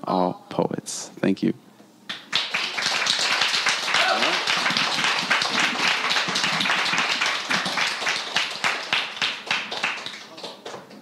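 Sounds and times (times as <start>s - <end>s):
audience applauding: 2.1s - 10.9s.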